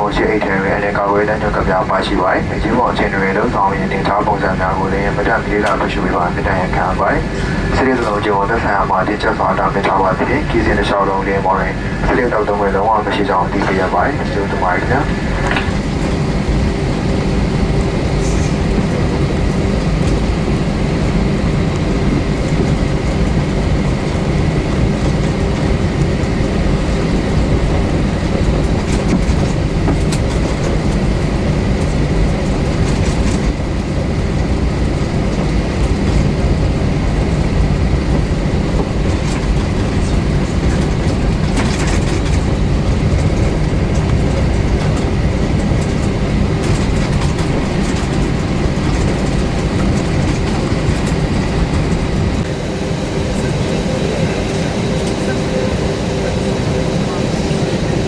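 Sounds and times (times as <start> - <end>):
airliner cabin engine rumble: 0.0 - 58.0
faint steady whine: 0.0 - 58.0.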